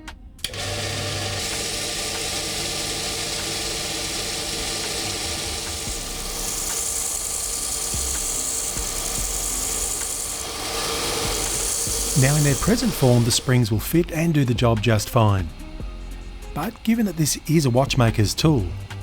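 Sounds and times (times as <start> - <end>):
power grinder grinding metal: 0.4 - 19.0.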